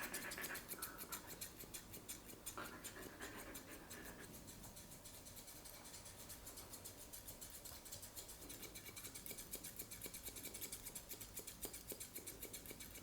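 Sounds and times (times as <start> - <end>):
scissors snipping through fur: 0.0 - 13.0.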